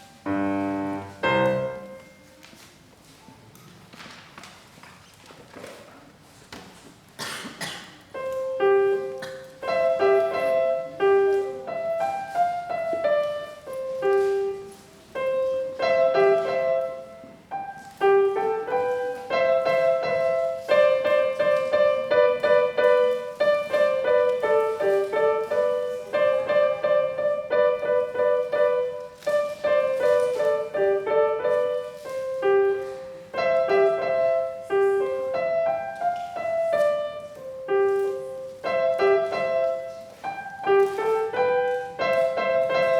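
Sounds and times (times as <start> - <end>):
simple piano piece: 0.0 - 2.7, 7.6 - 42.9.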